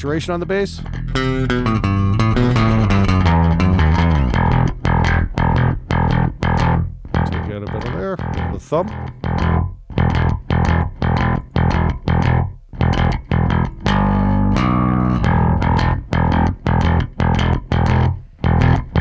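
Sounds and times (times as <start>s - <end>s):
palm-muted bass guitar riff: 0.0s - 19.0s.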